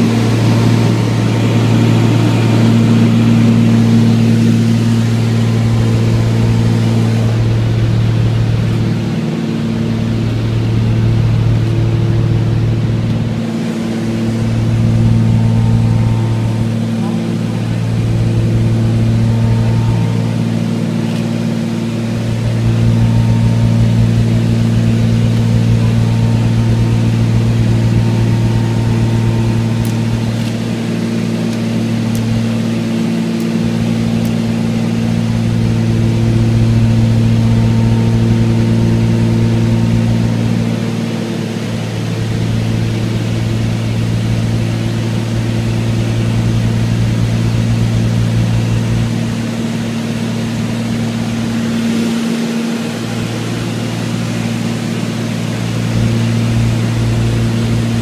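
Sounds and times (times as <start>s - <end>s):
propeller airplane engine drone: 0.0s - 58.0s.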